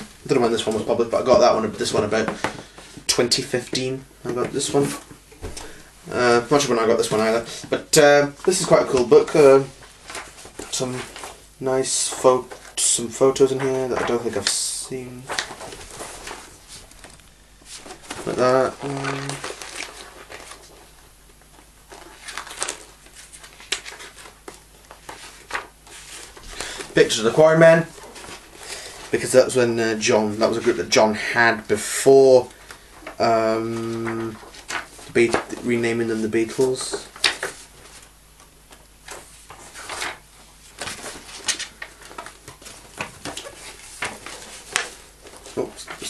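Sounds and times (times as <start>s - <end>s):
book pages turning: 6.3s - 29.3s, 31.8s - 46.0s.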